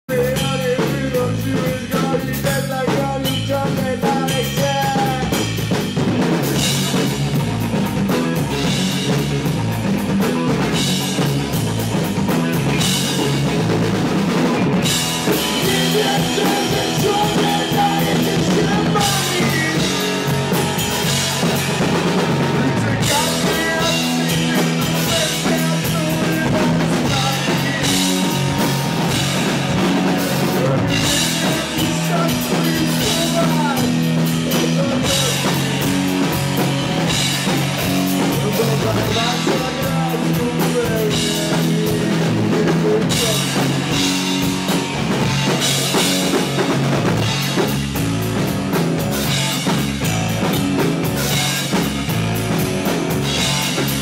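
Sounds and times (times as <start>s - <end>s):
drum kit: 0.0s - 54.0s
rock band playing live: 0.0s - 54.0s.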